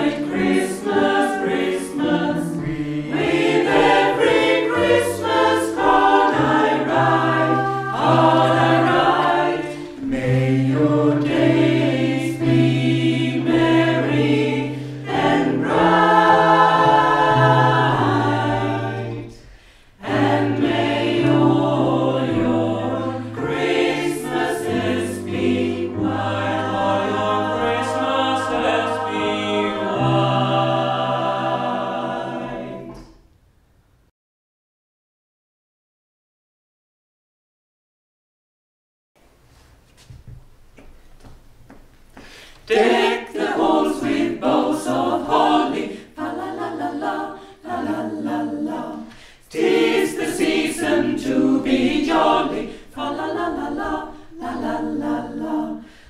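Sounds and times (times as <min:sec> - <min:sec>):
small choir singing in chords: 0:00.0 - 0:33.3, 0:42.6 - 0:56.0.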